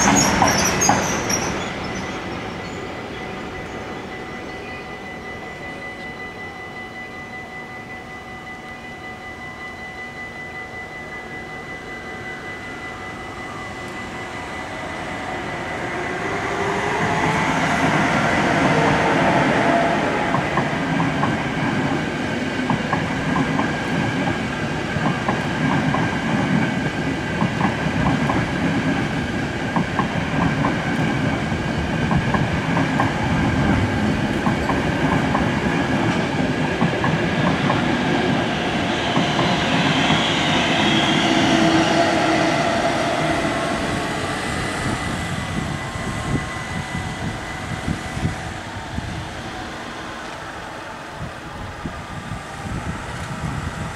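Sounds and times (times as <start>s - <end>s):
level crossing warning bell: 0.0s - 48.7s
electric train passing: 0.0s - 53.9s.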